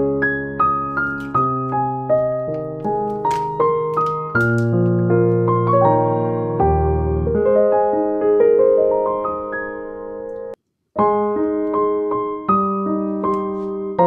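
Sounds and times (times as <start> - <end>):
slow piano notes: 0.0 - 14.0.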